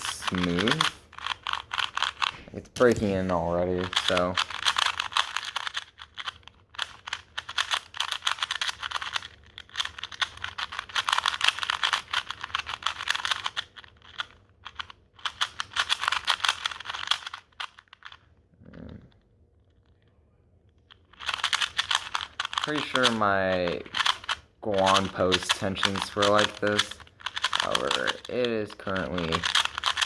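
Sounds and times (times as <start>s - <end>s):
speed cube plastic clicking: 0.0s - 18.2s, 20.8s - 30.0s.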